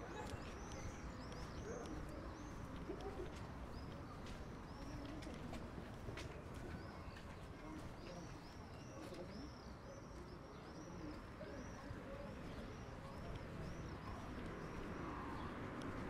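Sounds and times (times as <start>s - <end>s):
faint street background: 0.0s - 16.0s.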